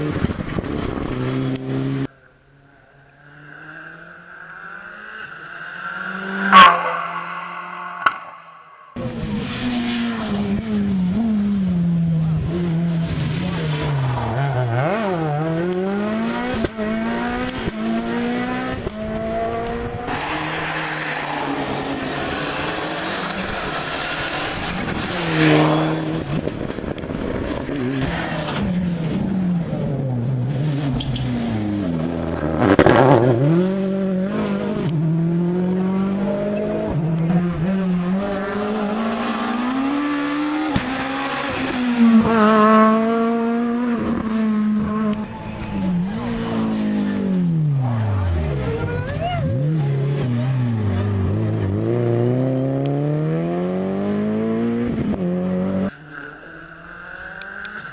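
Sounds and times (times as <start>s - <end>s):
cars passing by: 0.0s - 57.9s
rally car engines revving: 0.0s - 57.9s.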